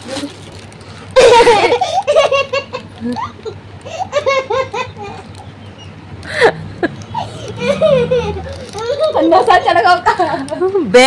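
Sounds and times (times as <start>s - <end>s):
girl laughing: 1.2s - 10.8s.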